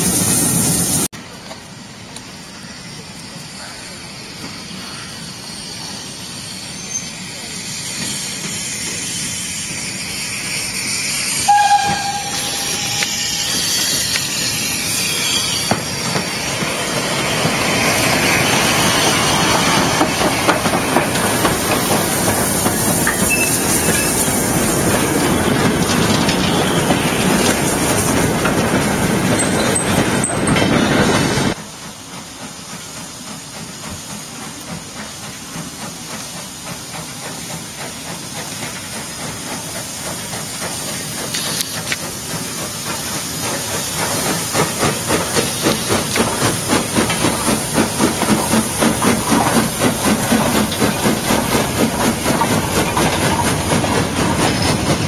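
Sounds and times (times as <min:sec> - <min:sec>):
steam locomotive chuffing: 0:00.0 - 0:55.0
steam train passing by: 0:00.0 - 0:55.0.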